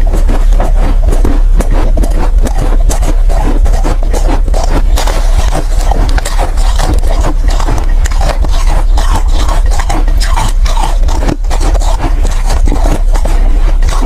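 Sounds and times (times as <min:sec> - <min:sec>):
ice being chewed: 0:00.0 - 0:14.0
steady low hum: 0:00.0 - 0:14.0.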